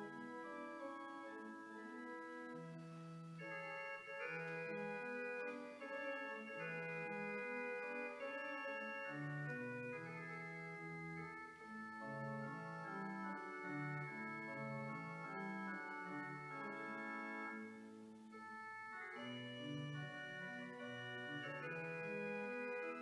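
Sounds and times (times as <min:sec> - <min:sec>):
church organ playing chords: 0:00.0 - 0:23.0.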